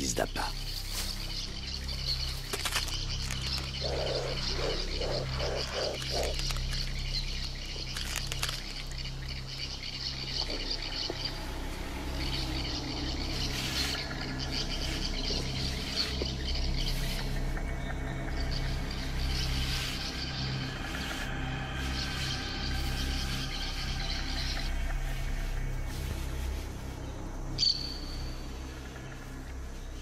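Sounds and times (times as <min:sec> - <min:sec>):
frogs and insects chirring: 0:00.0 - 0:30.0
low pulsed calls: 0:00.0 - 0:30.0.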